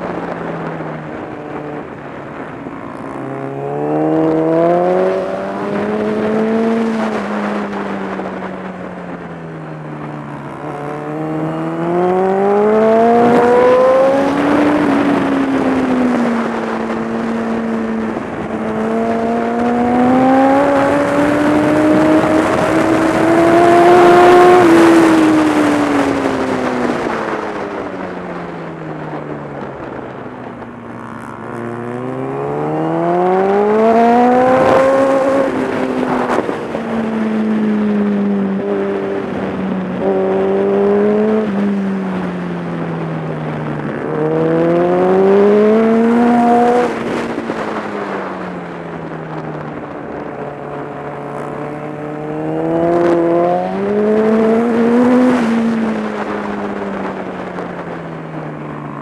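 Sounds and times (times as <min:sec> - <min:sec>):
motorcycle engine revving: 0:00.2 - 0:29.2, 0:29.8 - 0:59.0.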